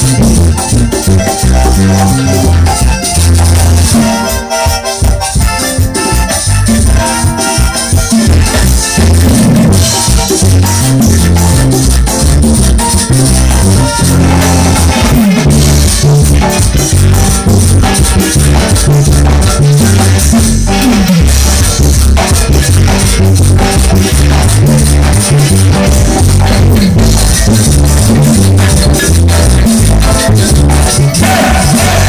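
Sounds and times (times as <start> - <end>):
bass line: 0.0 - 32.0
marimba dance music: 0.0 - 32.0
percussion beat: 0.0 - 32.0.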